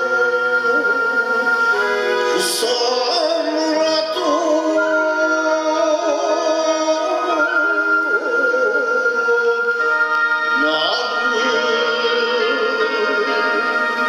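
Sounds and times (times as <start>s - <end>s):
sustained backing accompaniment: 0.0s - 14.0s
voice reciting with vibrato: 0.0s - 14.0s.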